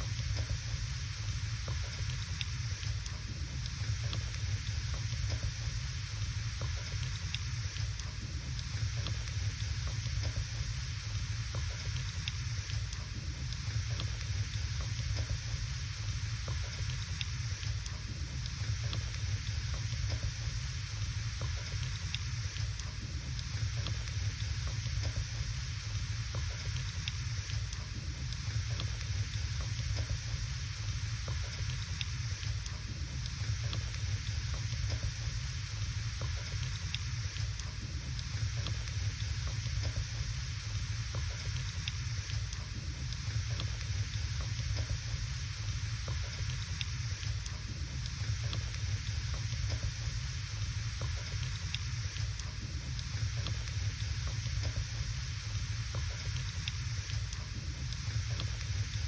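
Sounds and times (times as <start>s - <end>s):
fire hissing and rumbling: 0.0s - 59.0s
wood fire crackling and popping: 0.0s - 59.0s.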